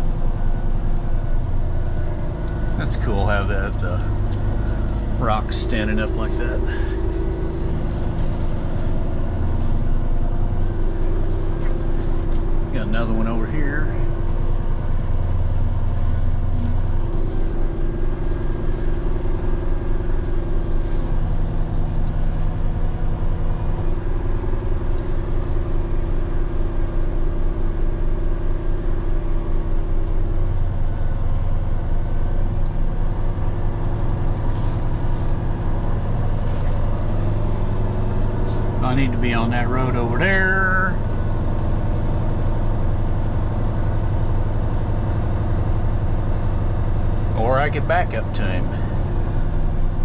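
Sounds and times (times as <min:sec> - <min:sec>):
diesel truck engine drone: 0:00.0 - 0:50.0.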